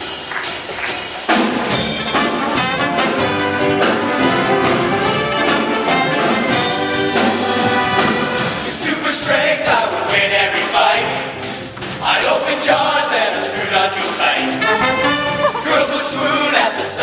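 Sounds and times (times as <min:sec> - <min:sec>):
steady drum beat: 0:00.0 - 0:17.0
brass chords: 0:01.5 - 0:11.1, 0:12.2 - 0:17.0.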